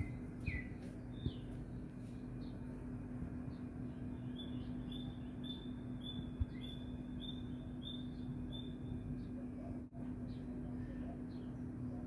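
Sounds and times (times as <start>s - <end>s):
bird chirping: 0.0s - 2.7s, 3.4s - 11.7s
steady low hum: 0.0s - 12.0s.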